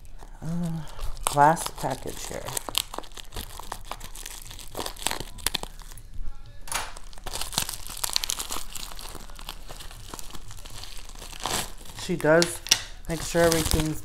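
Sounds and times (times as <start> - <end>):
bubble wrap and tape crinkling: 0.0 - 14.0.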